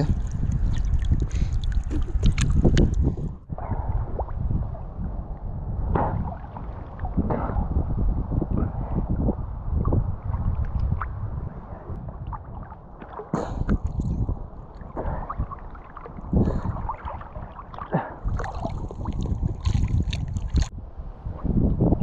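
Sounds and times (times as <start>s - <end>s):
water sloshing and splashing: 0.0s - 21.5s
wind rumble on microphone: 0.0s - 22.0s.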